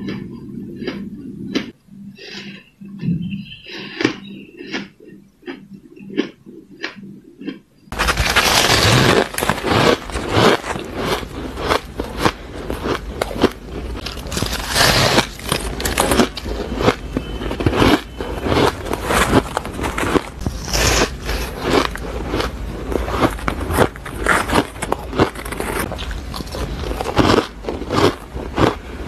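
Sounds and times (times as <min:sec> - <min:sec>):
chewing crunchy ice: 0:00.0 - 0:29.0.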